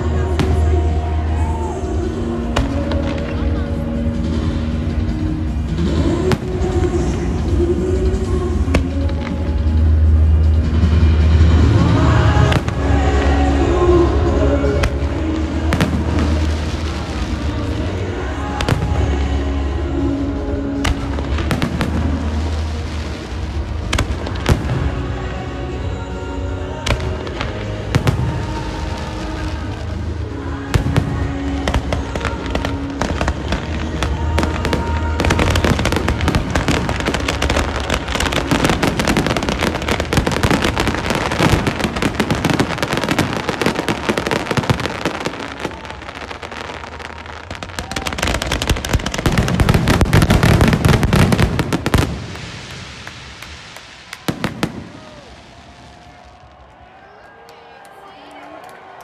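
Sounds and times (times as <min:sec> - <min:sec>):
fireworks bursting and crackling: 0:00.0 - 0:57.0
music playing: 0:00.0 - 0:59.0.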